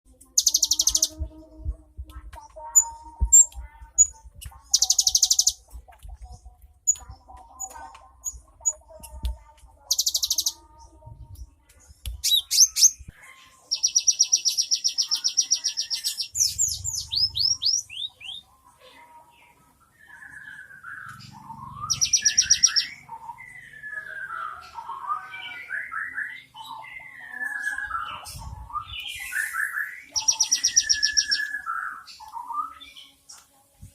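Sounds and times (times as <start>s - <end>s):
bird singing trills and whistles: 0.3s - 1.4s, 2.5s - 9.2s, 9.8s - 10.8s, 12.2s - 18.5s, 19.9s - 33.2s.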